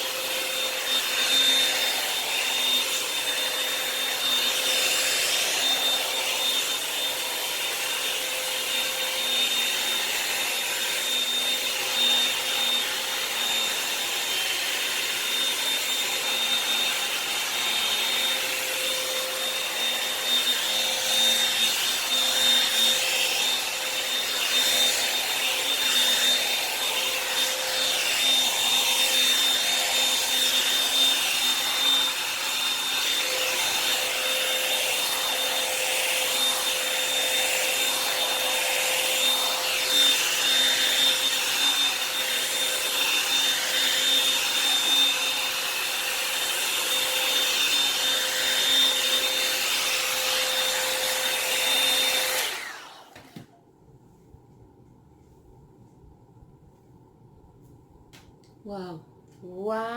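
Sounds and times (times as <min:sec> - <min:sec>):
hot-air brush motor whine: 0:00.0 - 0:53.5.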